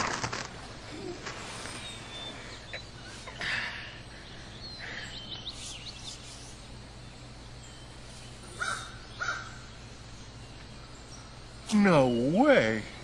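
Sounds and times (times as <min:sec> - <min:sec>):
faint low hum: 0:00.0 - 0:13.0
high bird chirps: 0:01.6 - 0:12.4.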